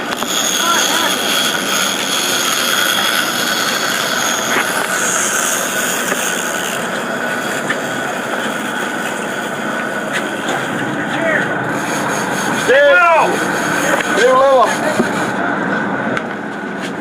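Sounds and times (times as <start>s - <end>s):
fishing reel drag buzzing: 0.0s - 15.4s
water noise: 0.0s - 16.3s
boat engine: 0.0s - 17.0s.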